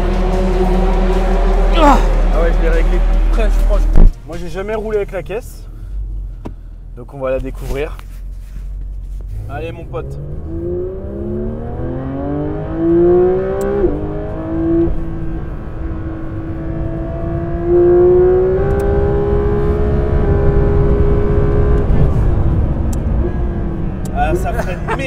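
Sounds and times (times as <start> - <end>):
car engine accelerating hard: 0.0 - 5.6, 9.2 - 25.0.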